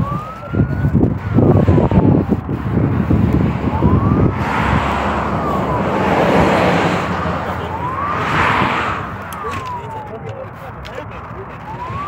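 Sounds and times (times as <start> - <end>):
road noise: 0.0 - 12.0
siren wailing: 0.0 - 12.0.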